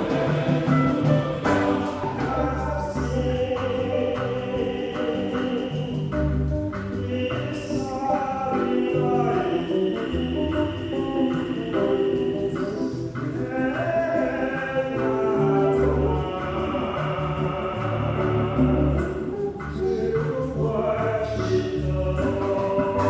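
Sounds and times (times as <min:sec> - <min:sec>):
church choir singing: 0:00.0 - 0:23.0
instrumental accompaniment: 0:00.0 - 0:23.0.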